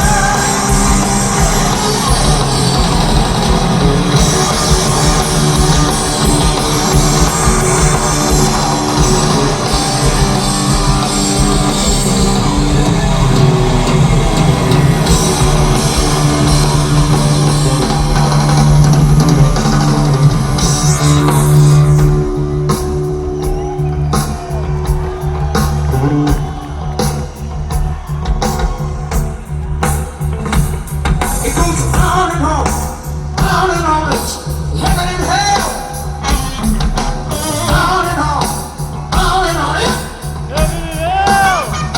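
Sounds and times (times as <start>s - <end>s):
bass guitar: 0.0s - 41.9s
distorted electric guitar: 0.0s - 41.9s
drum kit: 0.0s - 41.9s.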